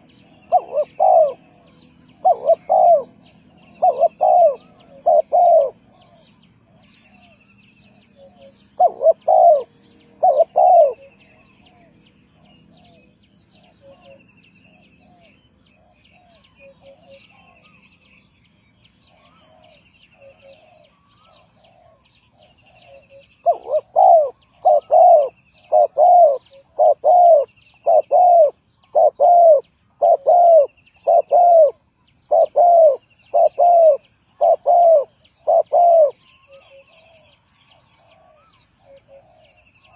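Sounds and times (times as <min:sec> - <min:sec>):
dove cooing: 0:00.0 - 0:17.9, 0:19.0 - 0:39.9
small birds chirping: 0:00.0 - 0:39.9.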